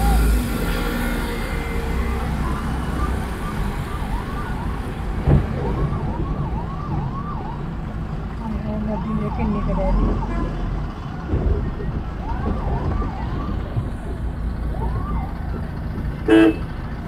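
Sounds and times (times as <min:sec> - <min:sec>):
siren wailing: 0:00.0 - 0:15.8
car engine rumble: 0:00.0 - 0:17.0
traffic: 0:00.0 - 0:17.0.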